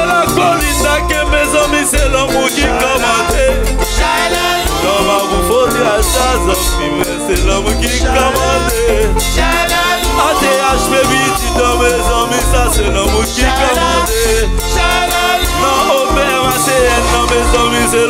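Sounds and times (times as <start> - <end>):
live band music: 0.0 - 18.0
people singing into microphones: 0.0 - 18.0.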